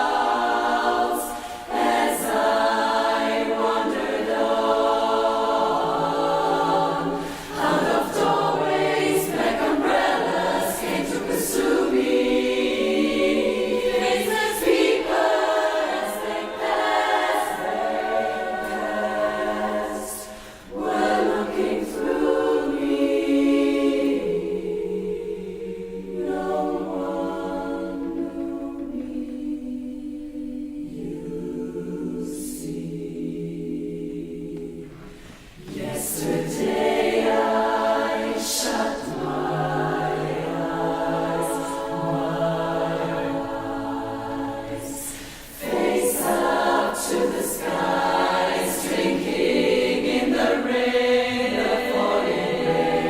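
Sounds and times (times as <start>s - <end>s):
barbershop chorus singing a cappella: 0.0s - 53.0s.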